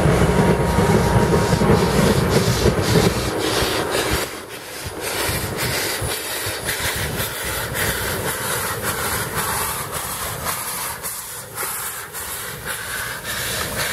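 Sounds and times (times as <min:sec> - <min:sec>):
steam hissing: 0:00.0 - 0:13.9
steam locomotive exhaust chuffs: 0:00.0 - 0:13.9
wheels rumbling on rail: 0:00.0 - 0:13.9.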